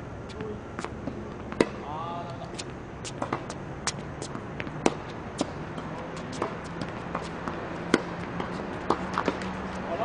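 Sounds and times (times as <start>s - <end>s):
low steady hum: 0.0s - 10.0s
ball bouncing: 0.3s - 1.8s, 2.4s - 9.9s
racket hitting ball: 0.8s - 1.8s, 2.4s - 10.0s.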